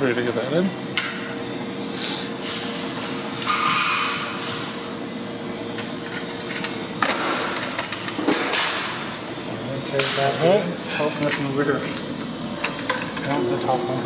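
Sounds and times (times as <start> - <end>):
clothes dryer motor hum: 0.0 - 14.0.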